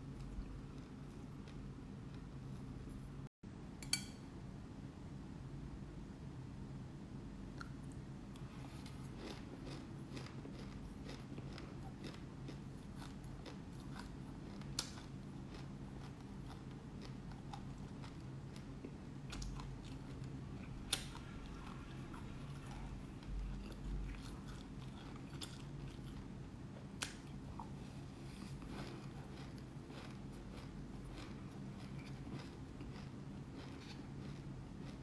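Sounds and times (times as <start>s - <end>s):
person chewing crunchy seeds: 0.0s - 2.6s, 8.4s - 35.0s
steady low hum: 0.0s - 35.0s.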